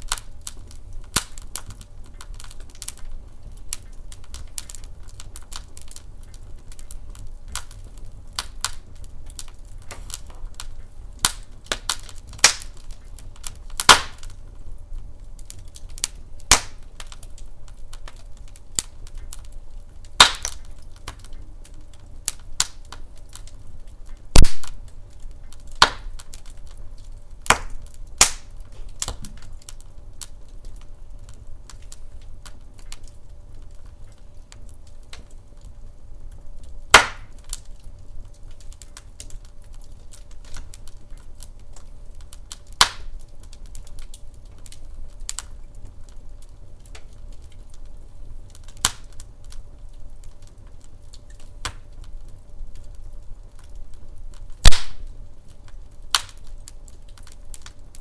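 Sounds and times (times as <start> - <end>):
logs crackling and popping: 0.0 - 58.0
low steady rumble: 0.0 - 58.0.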